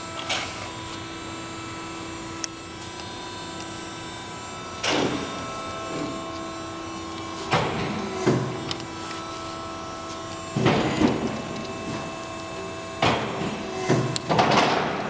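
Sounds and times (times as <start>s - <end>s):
loud noisy burst: 0.0s - 15.0s
sheet-metal folder mechanical hum: 0.0s - 15.0s.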